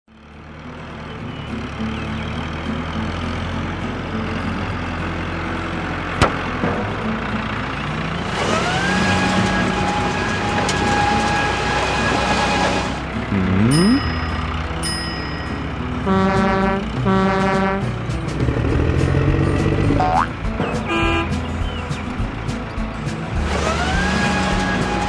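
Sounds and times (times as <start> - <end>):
cartoon tractor engine rumble: 0.1 - 25.0.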